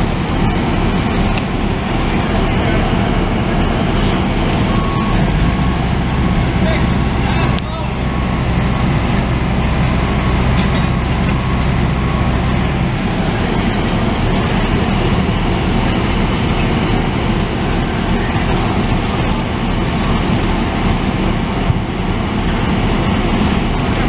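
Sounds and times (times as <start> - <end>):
heavy engine running: 0.0 - 24.0
loud rushing noise: 0.0 - 24.0.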